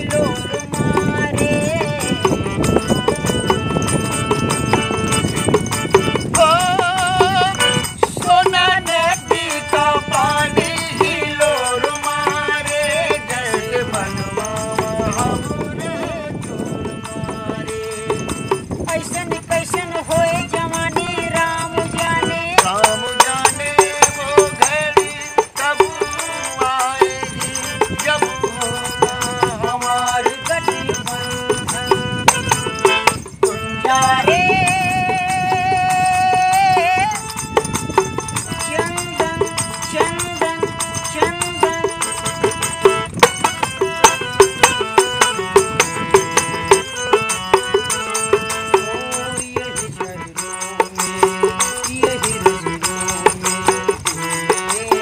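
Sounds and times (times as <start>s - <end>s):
person singing: 0.0s - 5.6s, 6.2s - 55.0s
frame drum with jingles: 0.0s - 55.0s
harmonium playing folk melody: 0.0s - 55.0s.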